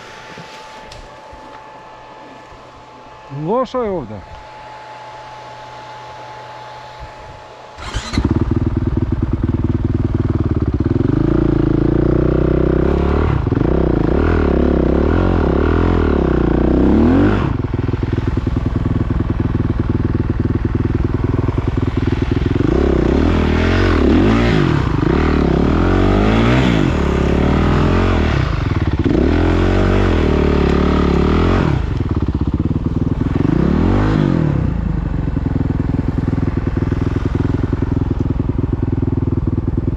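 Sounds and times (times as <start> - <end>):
motorcycle engine revving: 4.3 - 39.9.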